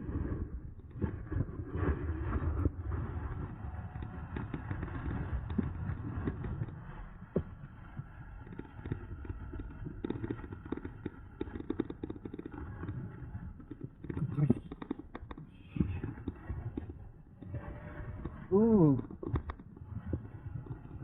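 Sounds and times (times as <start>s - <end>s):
wind buffeting microphone: 0.0s - 10.9s, 11.5s - 21.0s.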